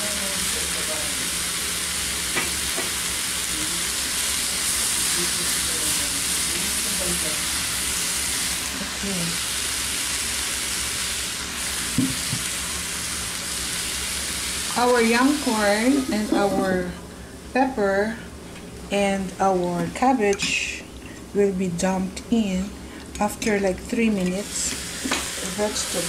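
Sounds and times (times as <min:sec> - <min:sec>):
vegetables sizzling in a skillet: 0:00.0 - 0:19.4, 0:22.6 - 0:26.0.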